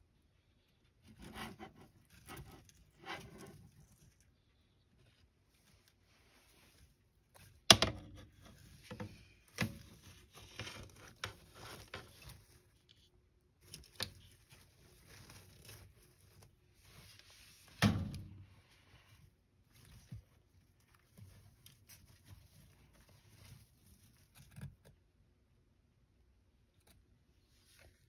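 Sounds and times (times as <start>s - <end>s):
light scratching and scrabbling: 0.2s - 17.8s, 18.4s - 25.1s.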